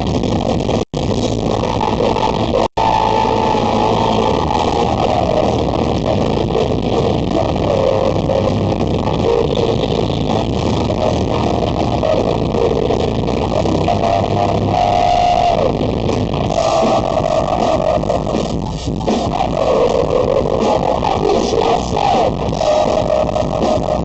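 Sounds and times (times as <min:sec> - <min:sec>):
live rock band music: 0:00.0 - 0:24.0.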